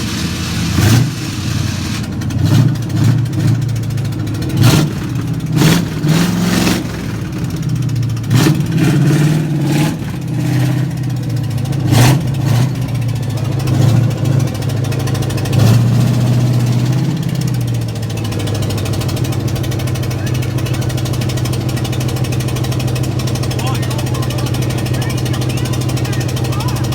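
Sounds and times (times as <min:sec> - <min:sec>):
short loud engine bursts: 0:00.0 - 0:26.9
vehicle engine running: 0:00.0 - 0:26.9.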